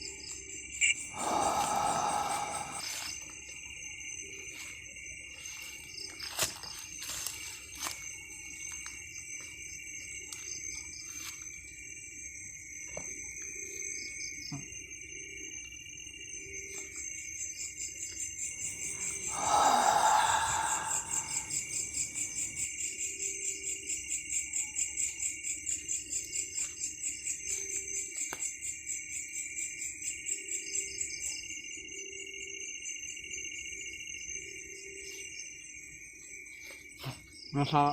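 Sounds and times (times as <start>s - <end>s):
night insects trilling: 0.0s - 37.9s.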